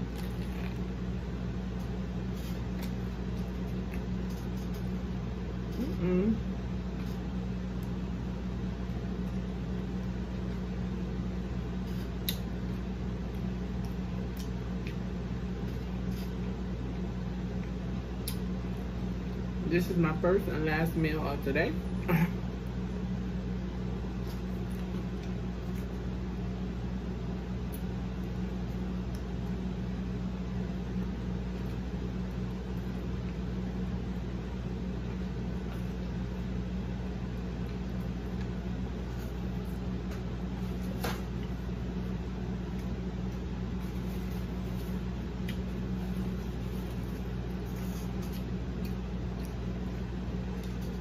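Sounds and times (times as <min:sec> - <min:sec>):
appliance humming: 0:00.0 - 0:51.0.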